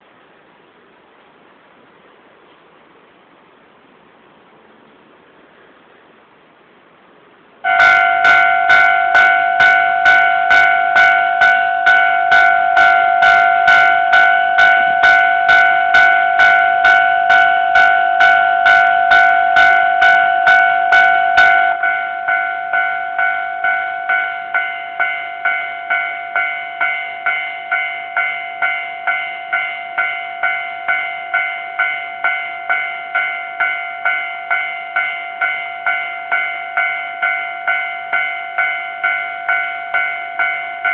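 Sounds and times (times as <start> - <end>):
level-crossing warning bell ringing: 7.6 - 40.9.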